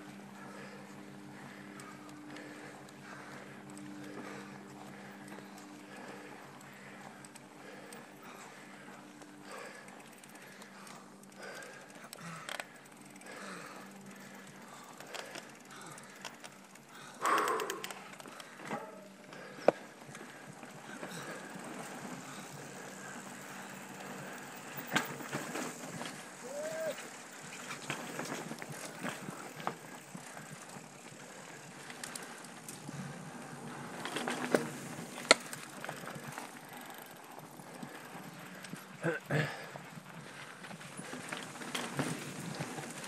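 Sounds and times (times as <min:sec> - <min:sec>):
bike ticking and rattling: 0:00.0 - 0:43.0.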